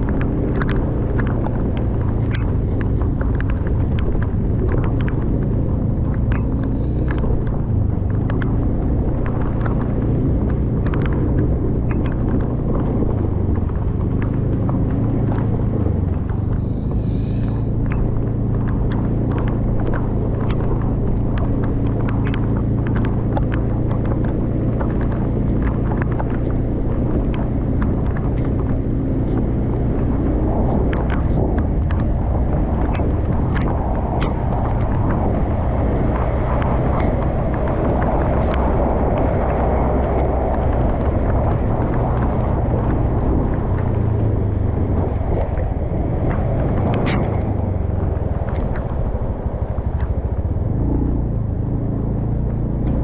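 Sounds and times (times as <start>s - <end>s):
low rumble: 0.0s - 53.0s
raindrops pattering: 0.0s - 53.0s.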